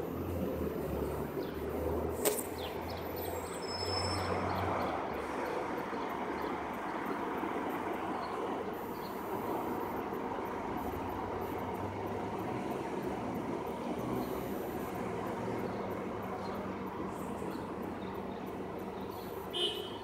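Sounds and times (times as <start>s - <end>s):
bus engine droning: 0.0s - 20.0s
passing traffic: 0.0s - 20.0s.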